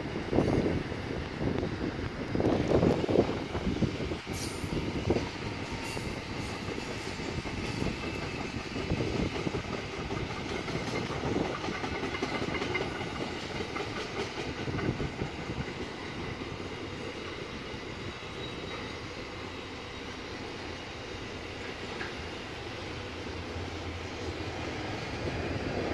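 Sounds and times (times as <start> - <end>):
train rumble: 0.0 - 25.9
train wheels clacking: 4.2 - 25.9.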